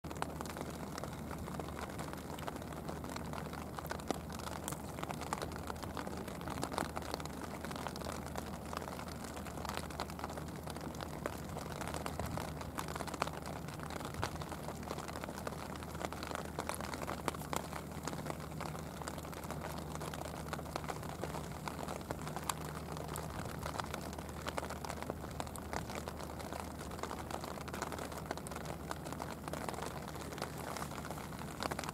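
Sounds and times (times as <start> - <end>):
rain pattering on the sea: 0.0 - 31.9.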